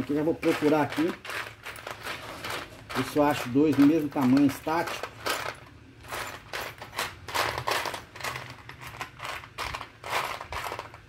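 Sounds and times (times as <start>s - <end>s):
hands rummaging through small parts: 0.0s - 11.0s.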